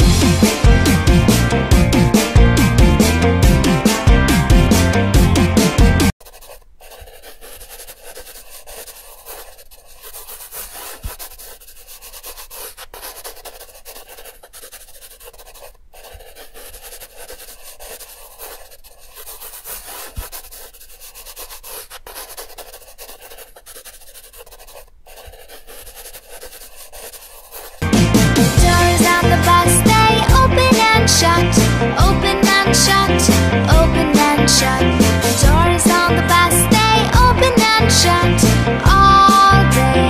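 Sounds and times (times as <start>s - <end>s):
marker scratching on paper: 5.4s - 39.6s.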